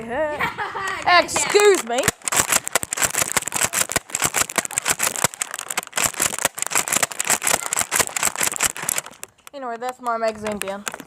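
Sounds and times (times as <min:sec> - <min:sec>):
handling noise crackling and clicks: 0:00.9 - 0:11.0.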